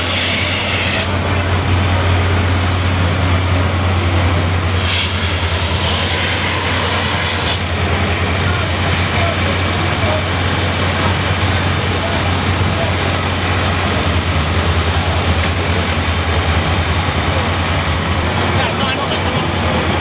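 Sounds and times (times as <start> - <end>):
street noise: 0.0 - 20.0
diesel engines idling: 0.2 - 6.1, 7.6 - 20.0.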